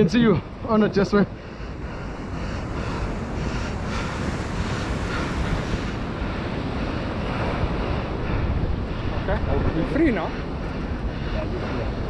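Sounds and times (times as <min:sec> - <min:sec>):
ocean surf breaking: 0:00.0 - 0:12.0
wind rumble on microphone: 0:00.0 - 0:12.0.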